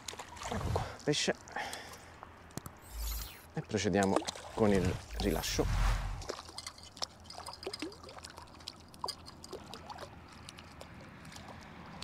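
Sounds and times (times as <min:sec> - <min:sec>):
small water splashes: 0:00.0 - 0:02.2, 0:03.5 - 0:12.0.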